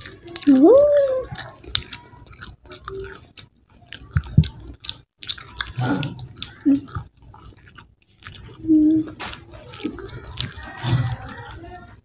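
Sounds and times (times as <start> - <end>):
people chewing crispy chicken: 0.0 - 12.0.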